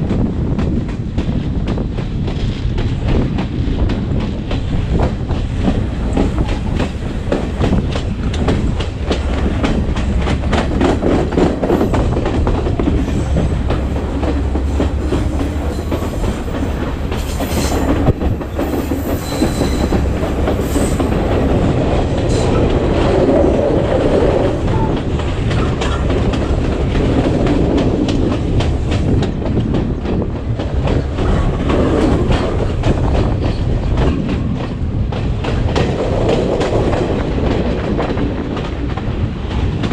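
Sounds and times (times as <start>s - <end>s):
train rumbling: 0.0s - 39.9s
wheels clicking over rail joints: 0.2s - 39.9s.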